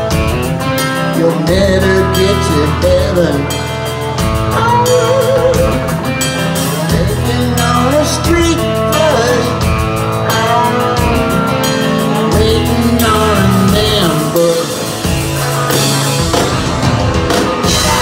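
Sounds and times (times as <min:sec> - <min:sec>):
bending lead guitar line: 0:00.0 - 0:18.0
live rock band playing: 0:00.0 - 0:18.0.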